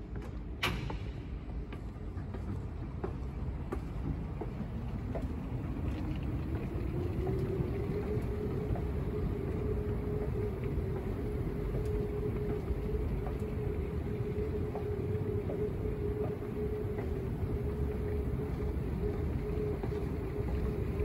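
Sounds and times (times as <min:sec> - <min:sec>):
low machine rumble: 0:00.0 - 0:21.0
mid-pitched hum: 0:00.0 - 0:21.0.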